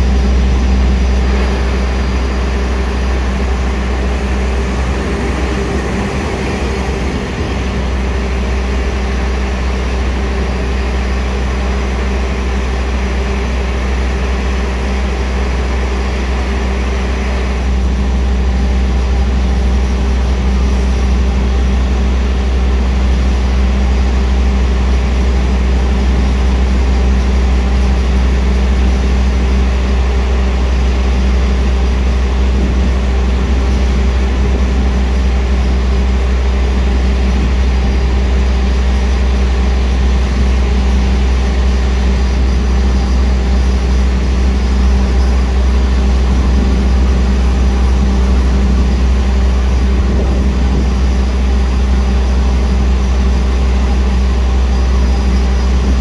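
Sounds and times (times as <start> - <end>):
train machinery humming: 0.0 - 56.0.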